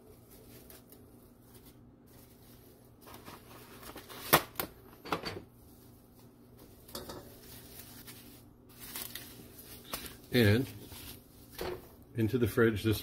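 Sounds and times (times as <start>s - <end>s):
plastic wrap rustling and crinkling: 0.0s - 12.1s.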